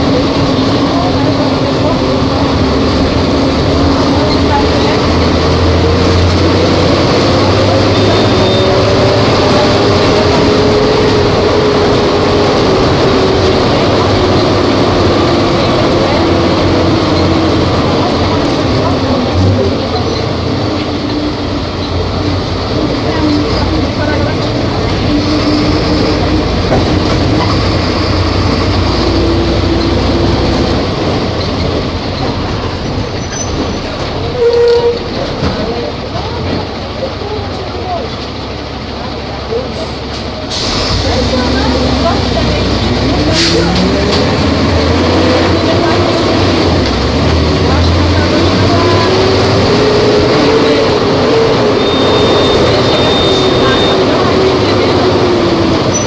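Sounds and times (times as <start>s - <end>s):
diesel bus engine running: 0.0s - 56.0s.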